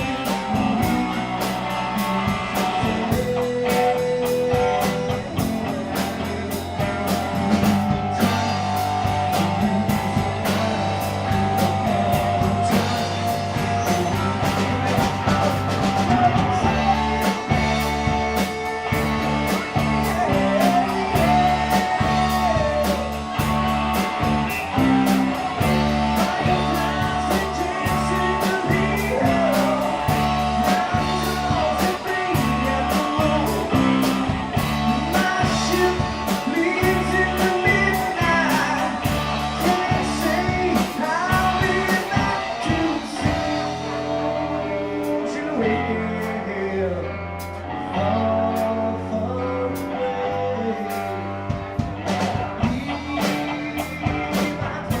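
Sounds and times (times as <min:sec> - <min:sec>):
steady drum beat: 0:00.0 - 0:45.3, 0:51.4 - 0:55.0
live rock band playing: 0:00.0 - 0:55.0
person singing: 0:00.0 - 0:55.0.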